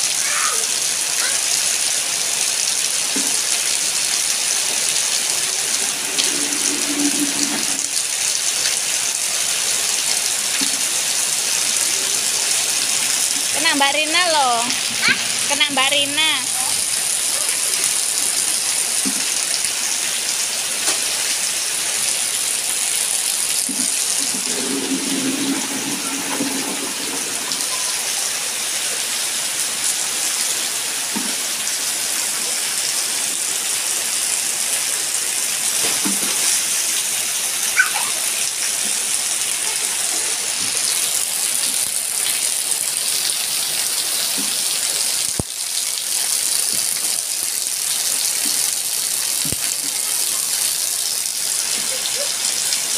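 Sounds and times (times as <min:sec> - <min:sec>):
heavy rain on concrete: 0:00.0 - 0:52.9.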